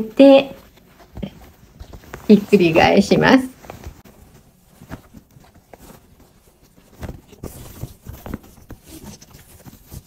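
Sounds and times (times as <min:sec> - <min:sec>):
fabric rustling and crumpling: 0:00.0 - 0:10.0
soft taps and brushes: 0:00.0 - 0:10.0.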